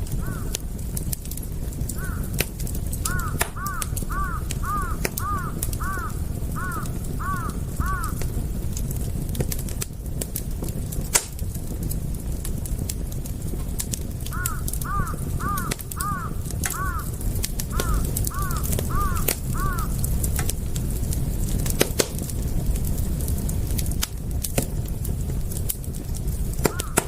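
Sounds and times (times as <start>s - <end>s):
campfire crackling and popping: 0.0s - 27.0s
low rumble of burning wood: 0.0s - 27.0s.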